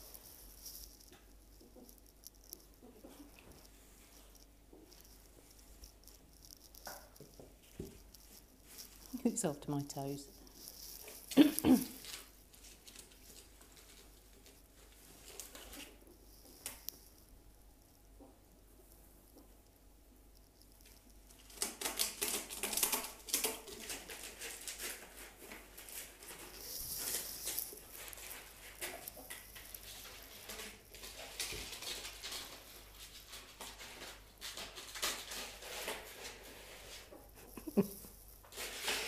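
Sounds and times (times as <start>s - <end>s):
ferrets scampering and scrabbling: 0.0s - 19.6s, 20.3s - 39.0s.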